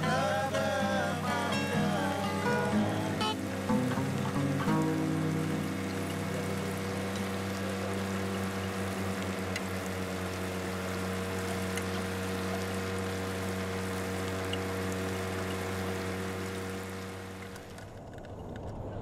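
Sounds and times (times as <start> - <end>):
boat motor running: 0.0 - 18.5
hiss of water and rain: 0.0 - 19.0.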